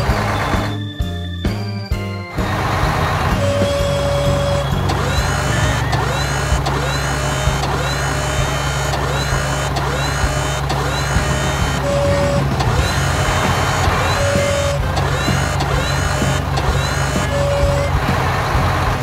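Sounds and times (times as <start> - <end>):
steady engine hum: 0.0 - 0.9, 2.3 - 19.0
short beep: 0.0 - 18.1.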